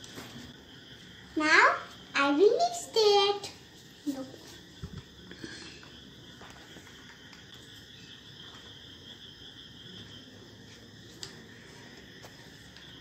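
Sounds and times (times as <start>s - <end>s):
high-pitched background whine: 0.0s - 13.0s.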